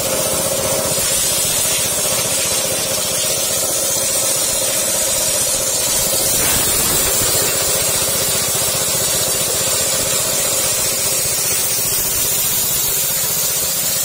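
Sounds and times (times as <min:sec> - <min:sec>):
hammer mill grinding grain: 0:00.0 - 0:14.0.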